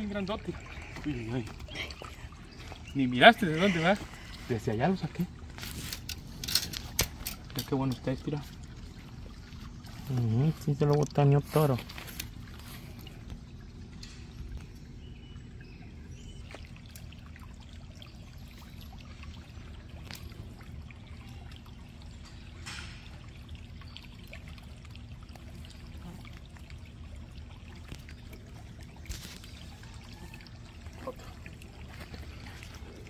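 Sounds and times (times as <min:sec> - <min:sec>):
creek trickling: 0:00.0 - 0:33.0.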